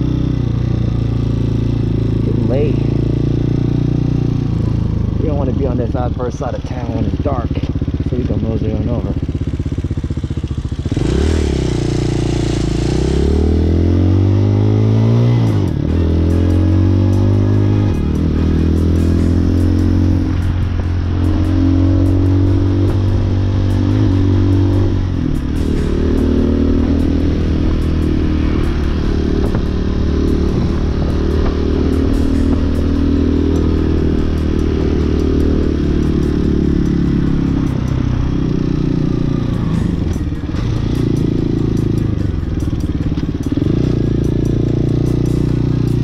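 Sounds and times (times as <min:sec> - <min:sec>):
motorcycle engine pulling away: 0:00.0 - 0:46.0.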